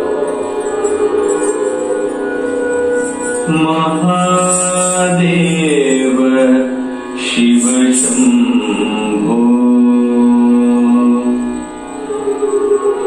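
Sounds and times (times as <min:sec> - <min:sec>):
instrumental accompaniment: 0:00.0 - 0:13.0
person singing long held notes: 0:00.0 - 0:13.0.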